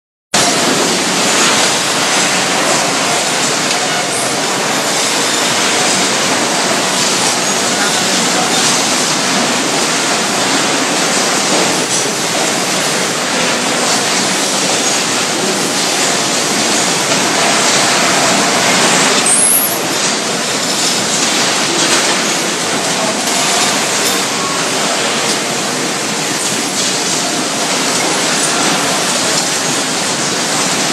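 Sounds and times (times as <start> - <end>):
factory machinery running: 0.4 - 30.9.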